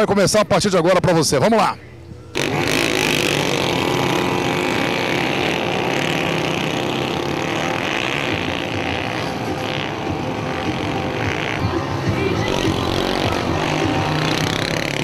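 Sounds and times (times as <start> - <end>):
motorcycle engines revving: 1.5 - 15.0.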